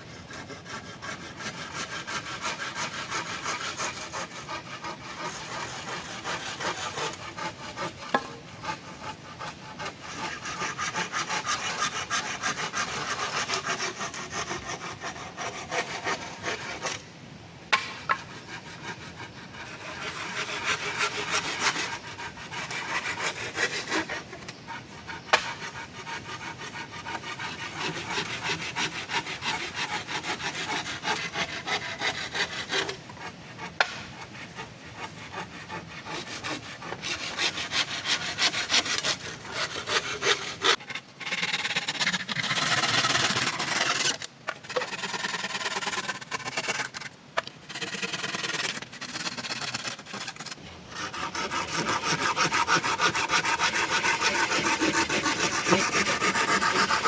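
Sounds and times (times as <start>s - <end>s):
hand saw cutting wood: 0.0s - 17.0s, 17.7s - 57.0s.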